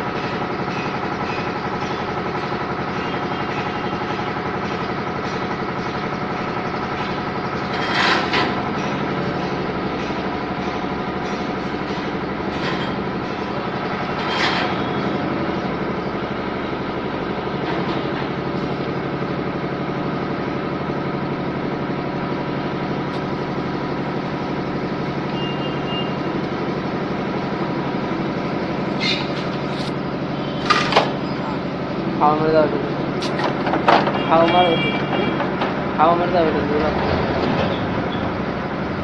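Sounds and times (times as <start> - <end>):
machine motor humming: 0.0 - 39.0.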